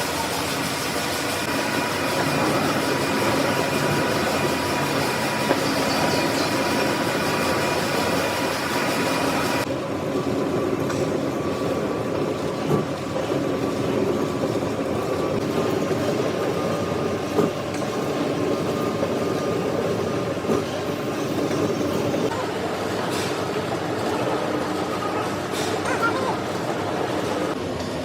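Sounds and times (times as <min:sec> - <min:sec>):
metalworking machine humming: 0:00.0 - 0:28.0.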